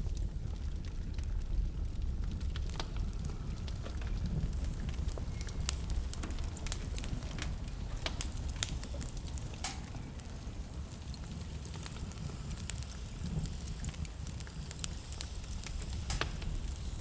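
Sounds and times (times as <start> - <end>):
low rumble of burning: 0.0 - 17.0
wood fire crackling: 0.0 - 17.0.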